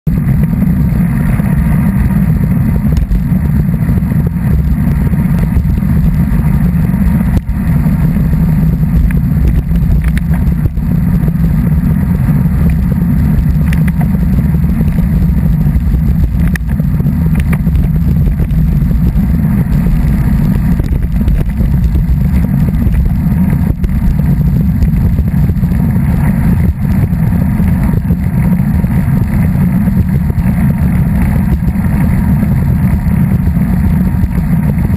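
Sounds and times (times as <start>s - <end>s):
wind buffeting microphone: 0.1s - 34.9s.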